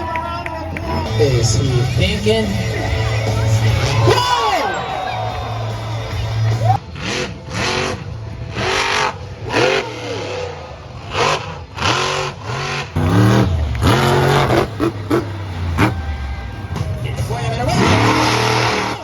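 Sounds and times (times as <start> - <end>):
monster truck engine revving: 0.8 - 19.0.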